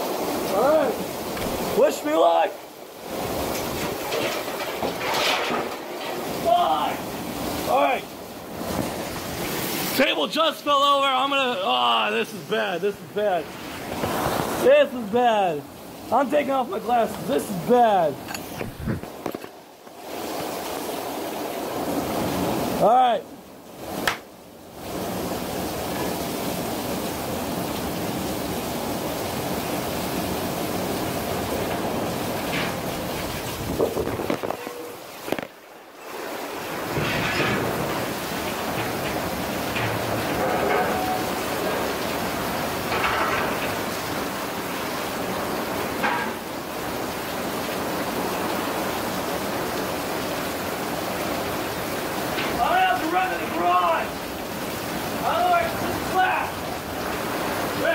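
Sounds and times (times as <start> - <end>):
heavy rain pouring: 0.0 - 57.9
heavy wind-driven downpour: 0.0 - 57.9.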